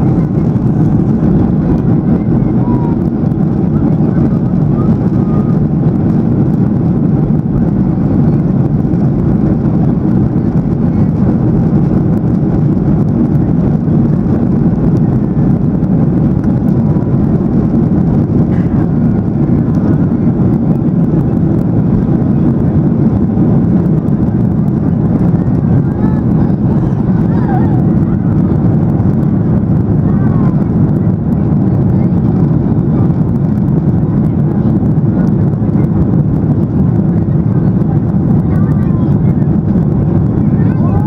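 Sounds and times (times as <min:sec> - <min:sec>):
jet engines rumbling in cabin: 0:00.0 - 0:41.0.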